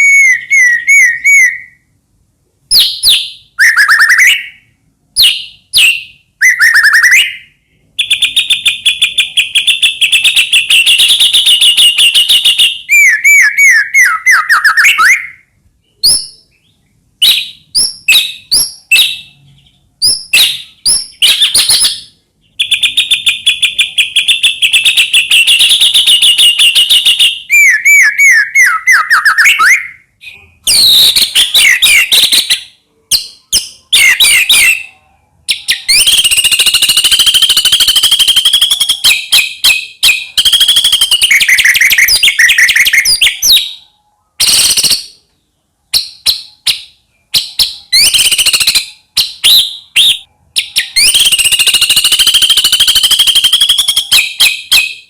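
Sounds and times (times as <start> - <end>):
songbird singing with trills: 0.0 - 1.9, 2.7 - 55.0.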